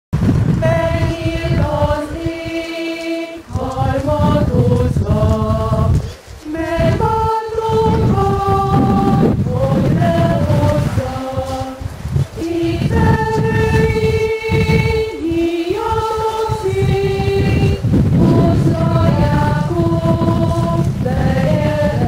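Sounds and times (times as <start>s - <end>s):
choir singing: 0.6s - 22.0s.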